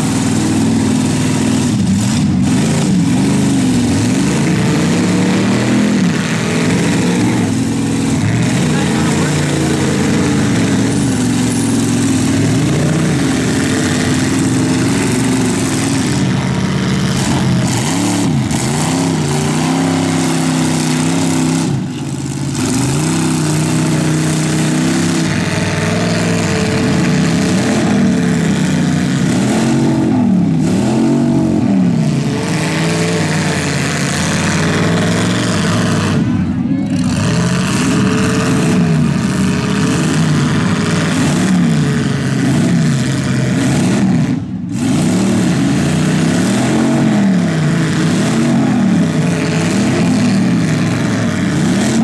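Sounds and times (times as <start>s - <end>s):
car engines revving: 0.0s - 52.0s
drone of other engines: 0.0s - 52.0s.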